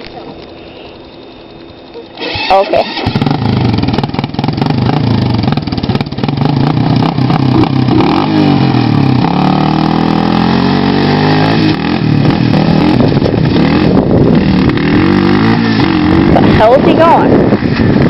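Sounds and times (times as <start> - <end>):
small engine revving: 2.0 - 18.0.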